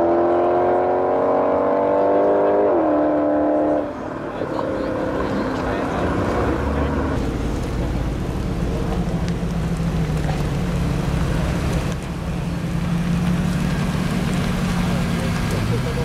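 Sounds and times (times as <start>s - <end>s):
car engine droning at low speed: 0.0s - 16.0s
passing car engine: 0.0s - 16.0s.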